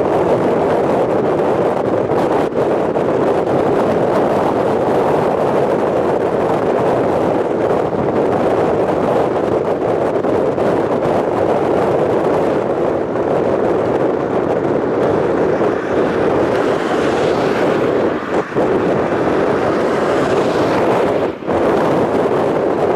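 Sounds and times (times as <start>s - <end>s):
strong wind on microphone: 0.0s - 22.9s.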